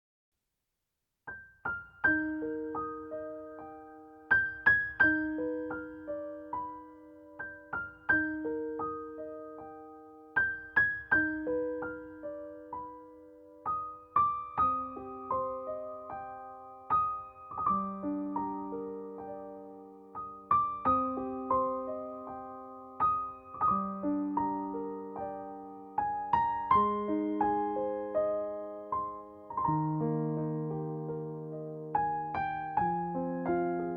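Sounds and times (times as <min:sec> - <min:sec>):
gentle piano music: 0:01.3 - 0:33.9.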